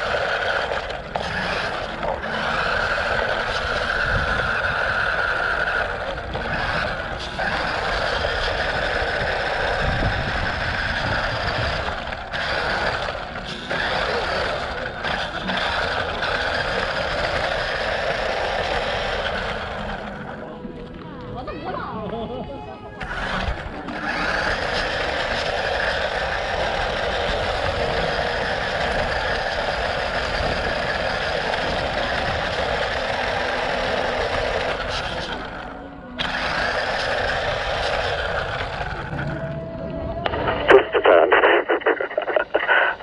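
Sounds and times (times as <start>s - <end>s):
toy car electric motor whining: 0.0s - 20.5s, 23.0s - 39.6s
tyres rolling over rough paving: 0.0s - 40.4s.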